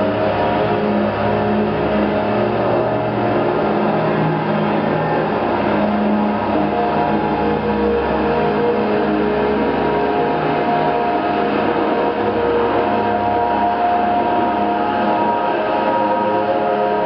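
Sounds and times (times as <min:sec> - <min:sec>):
ambient synthesizer drone: 0:00.0 - 0:17.0.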